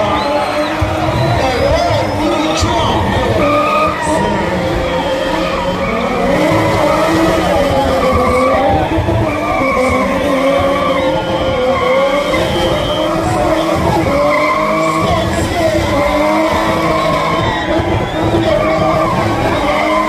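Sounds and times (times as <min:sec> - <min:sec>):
car engine revving high: 0:00.0 - 0:20.0
tyres skidding: 0:00.0 - 0:20.0.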